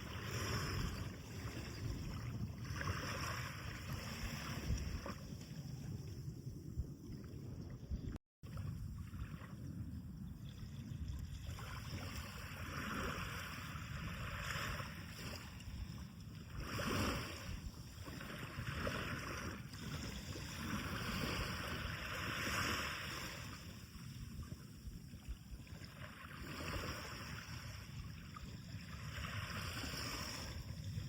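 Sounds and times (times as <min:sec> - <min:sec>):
waves breaking on a beach: 0:00.0 - 0:06.1, 0:08.5 - 0:31.0.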